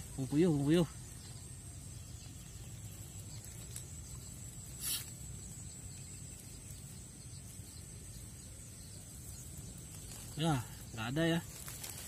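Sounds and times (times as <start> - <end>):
high thin insect drone: 0.0 - 12.0.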